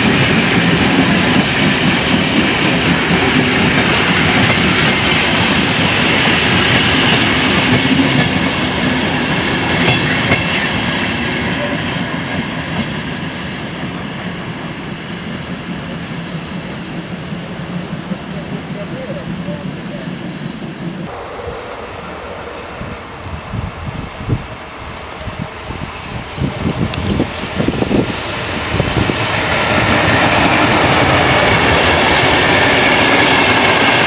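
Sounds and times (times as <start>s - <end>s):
steel wheels squealing on rail: 0.0s - 34.0s.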